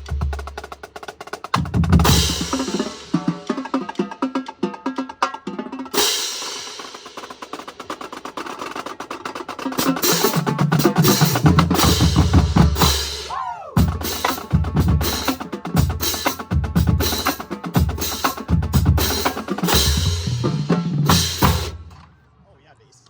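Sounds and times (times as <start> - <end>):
snare and tenor drums: 0.0 - 22.2.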